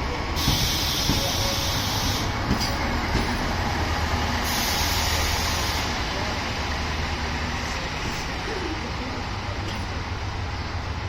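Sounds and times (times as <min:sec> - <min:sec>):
train hissing: 0:00.0 - 0:11.0
train low rumble: 0:00.0 - 0:11.0.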